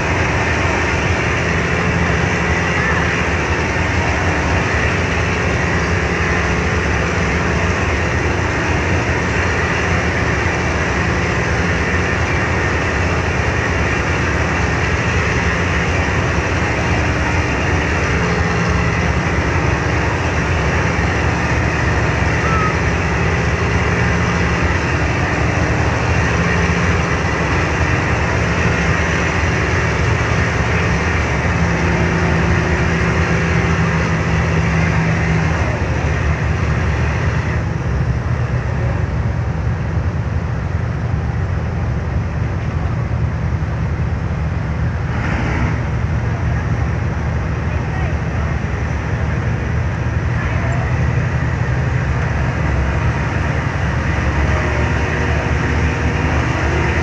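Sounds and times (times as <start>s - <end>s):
rushing wake and wind: 0.0s - 57.0s
ship engines droning: 0.0s - 57.0s.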